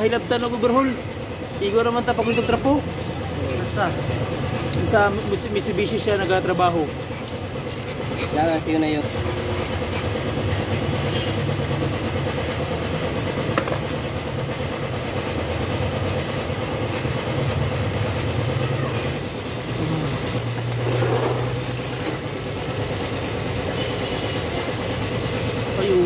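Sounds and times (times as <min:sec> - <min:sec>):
machine droning: 0:00.0 - 0:26.0.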